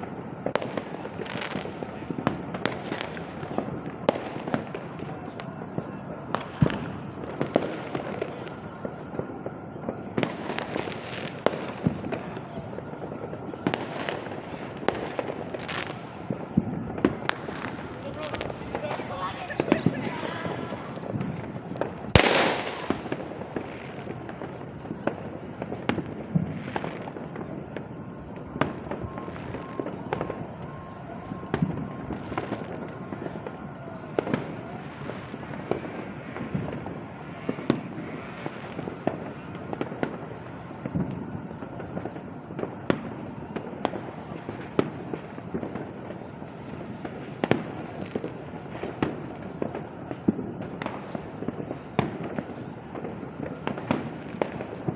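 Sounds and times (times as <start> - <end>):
sharp firework pops: 0.0 - 30.5, 31.4 - 54.9
fireworks and firecrackers crackling: 0.0 - 54.9.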